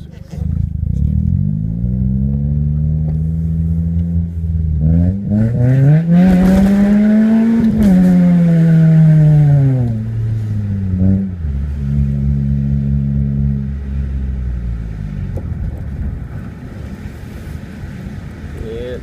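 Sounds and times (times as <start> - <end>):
car engine revving down: 0.0 - 19.0.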